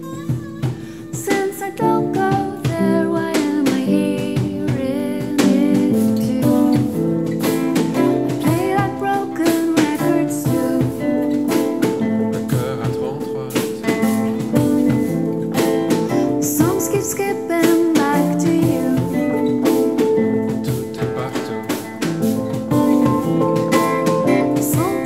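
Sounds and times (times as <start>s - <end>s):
acoustic pop band playing: 0.0s - 25.0s
strummed guitar: 0.0s - 25.0s.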